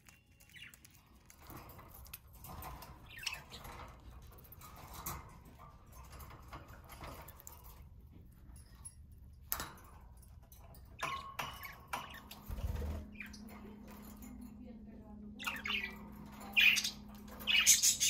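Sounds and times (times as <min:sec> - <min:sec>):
birds clicking and tapping in cage: 0:00.0 - 0:18.0.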